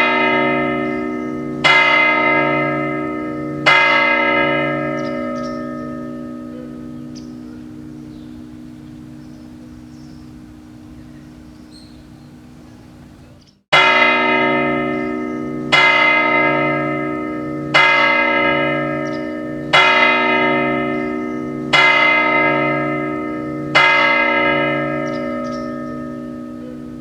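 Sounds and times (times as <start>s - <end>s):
clock tower bell striking: 0.0s - 11.7s, 13.7s - 27.0s.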